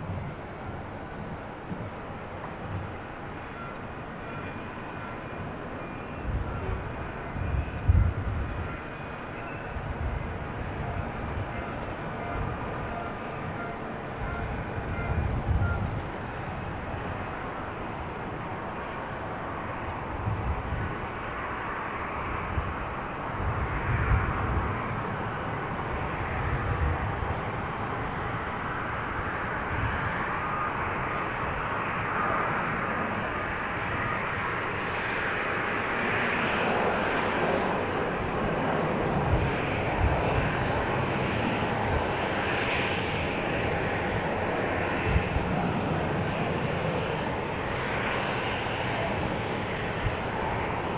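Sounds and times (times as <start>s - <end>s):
airliner engine rush: 0.0s - 50.9s.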